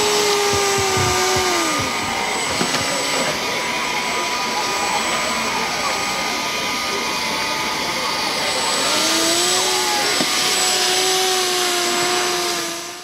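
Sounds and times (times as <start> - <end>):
model hovercraft fan whining: 0.0 - 13.0.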